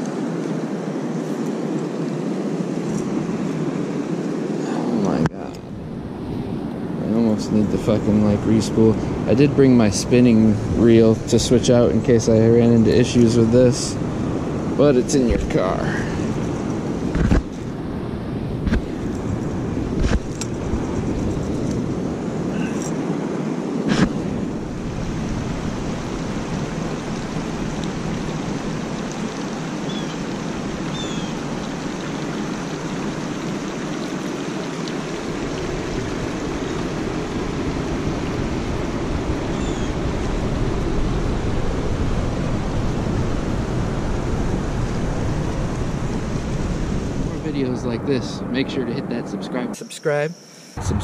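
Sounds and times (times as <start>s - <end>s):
wind rumbling on microphone: 0.0s - 49.5s, 50.8s - 51.0s
flowing river water: 0.0s - 50.8s.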